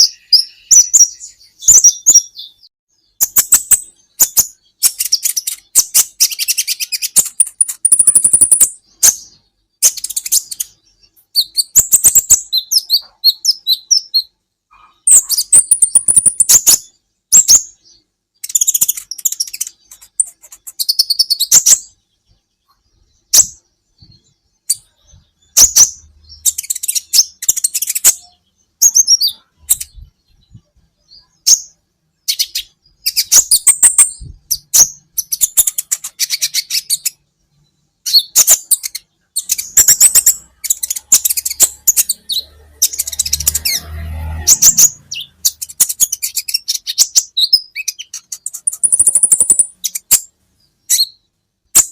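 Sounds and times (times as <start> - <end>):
bird chirping and trilling: 0.0 - 51.9.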